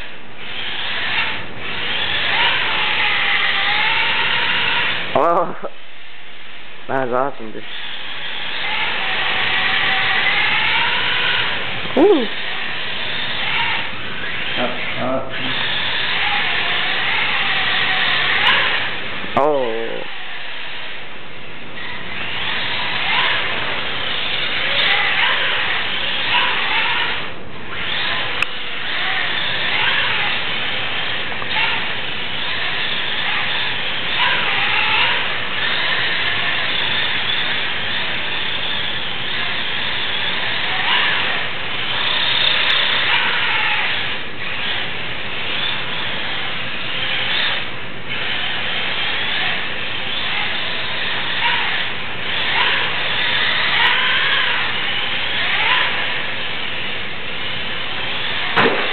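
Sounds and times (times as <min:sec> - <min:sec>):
rc car motor whining: 0:00.0 - 0:58.9.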